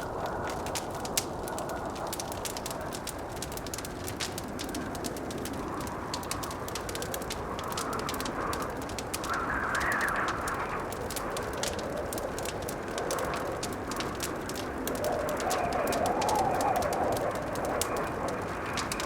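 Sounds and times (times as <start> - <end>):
blizzard wind rushing: 0.0 - 19.0
wood fire crackling and popping: 0.0 - 19.0.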